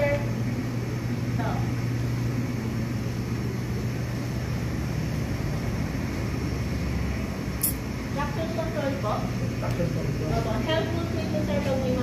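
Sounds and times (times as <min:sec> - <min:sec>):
constant background noise: 0:00.0 - 0:12.0
low mechanical hum: 0:00.0 - 0:12.0.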